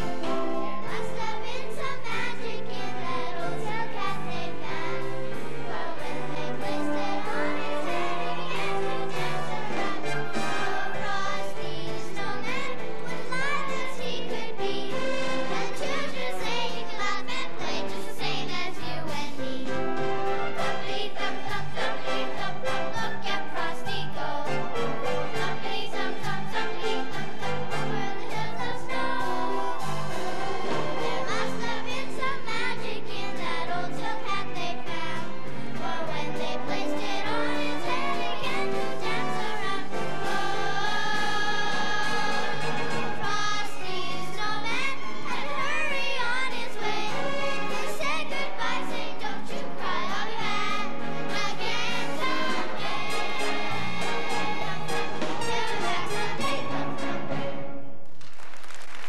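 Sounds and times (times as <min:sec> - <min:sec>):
children's choir singing: 0:00.0 - 0:57.8
instrumental accompaniment: 0:00.0 - 0:58.4.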